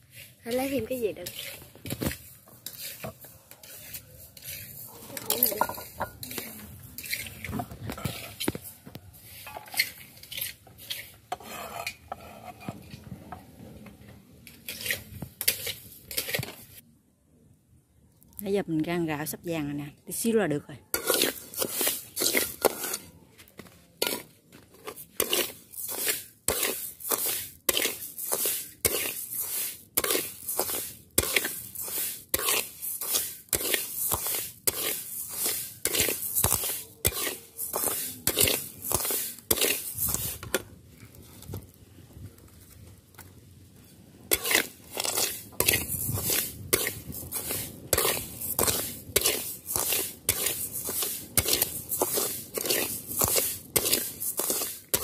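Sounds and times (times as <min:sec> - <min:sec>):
spatula stirring dry rice in pan: 0:00.0 - 0:13.4, 0:14.4 - 0:16.8, 0:20.1 - 0:41.7, 0:43.2 - 0:55.0.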